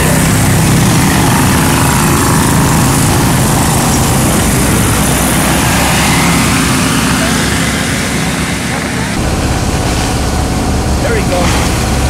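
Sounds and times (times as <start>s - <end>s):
small engines racing past: 0.0s - 12.0s.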